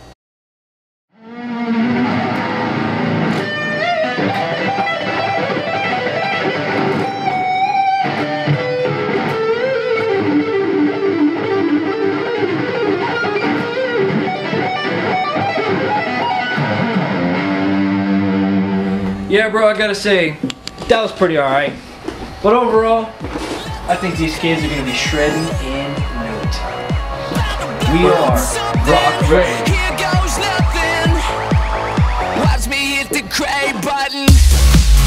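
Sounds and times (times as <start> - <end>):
electric guitar lead playing: 1.2 - 19.3, 23.1 - 33.7.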